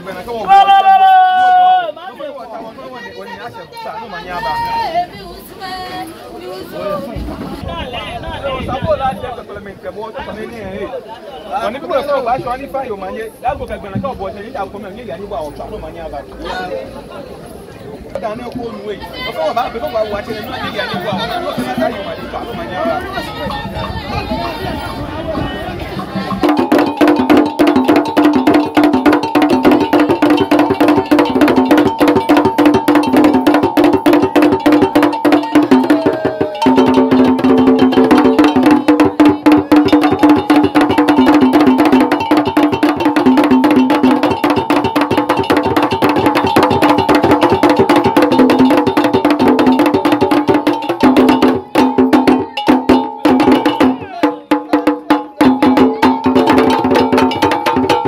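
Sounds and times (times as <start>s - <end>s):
traditional drum and percussion music: 0.0s - 2.0s, 2.6s - 16.6s, 17.6s - 58.0s.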